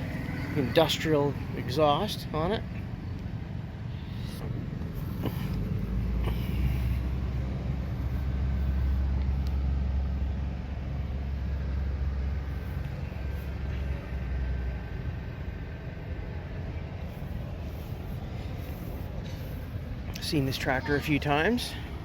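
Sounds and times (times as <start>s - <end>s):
engine rumbling at low speed: 0.0s - 22.0s.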